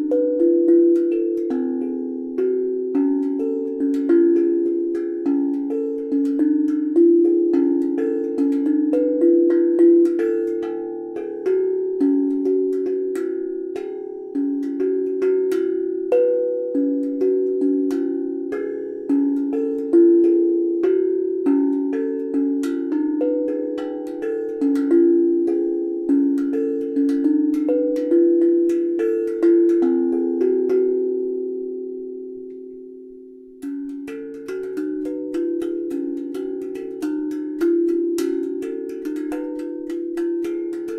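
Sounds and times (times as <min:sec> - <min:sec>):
steel tongue drum notes ringing: 0:00.0 - 0:40.9.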